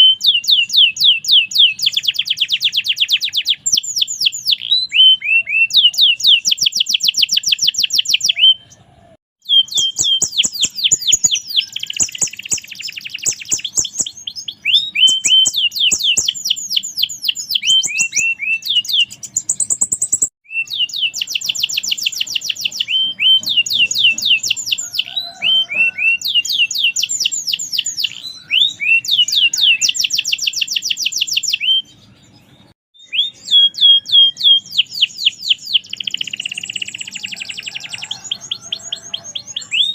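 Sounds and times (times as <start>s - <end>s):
canary singing in rapid trills: 0.0s - 39.9s.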